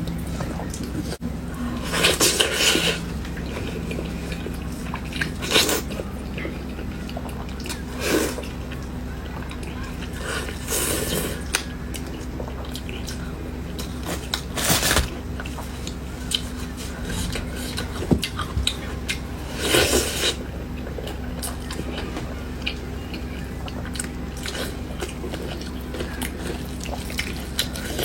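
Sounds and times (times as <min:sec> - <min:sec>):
low steady hum: 0:00.0 - 0:28.0
person chewing food: 0:00.0 - 0:28.0.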